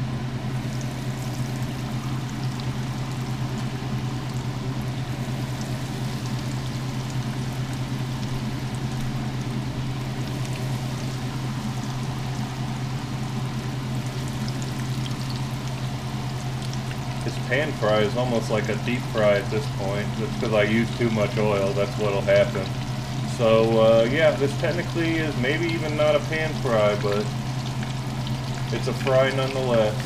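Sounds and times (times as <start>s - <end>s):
fish sizzling in hot oil: 0.0s - 30.0s
steady low hum: 0.0s - 30.0s.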